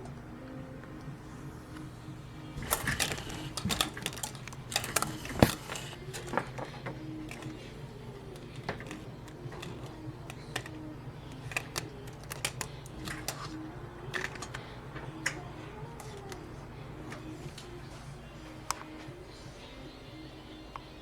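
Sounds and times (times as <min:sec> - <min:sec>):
steady low hum: 0:00.0 - 0:21.0
kittens clicking and tapping: 0:00.9 - 0:19.7.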